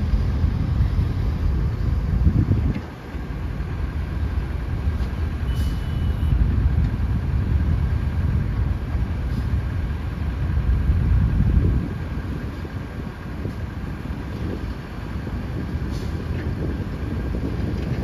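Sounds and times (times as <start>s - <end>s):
excavator diesel engine rumble: 0.0s - 18.0s.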